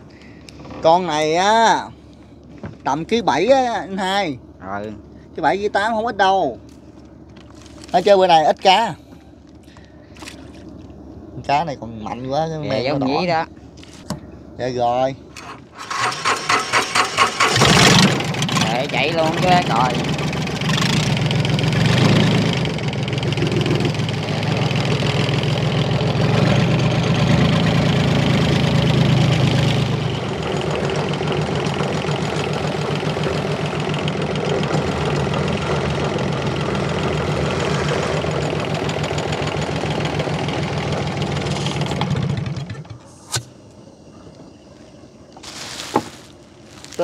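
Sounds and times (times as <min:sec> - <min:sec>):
boat engine running: 0:00.0 - 0:47.0.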